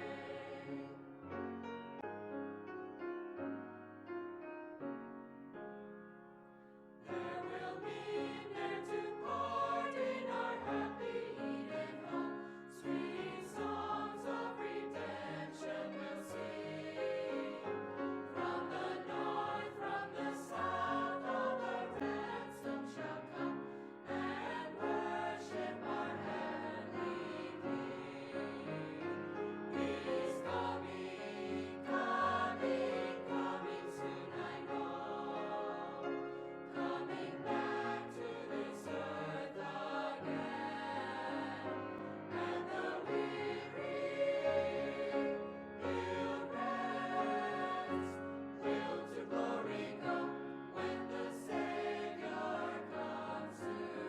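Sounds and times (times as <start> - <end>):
choir singing slow chords: 0.0 - 1.4, 7.0 - 54.0.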